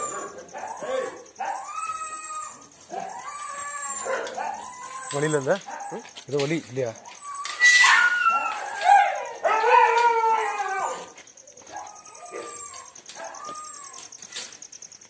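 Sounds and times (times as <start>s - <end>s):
dogs howling: 0.0s - 14.2s.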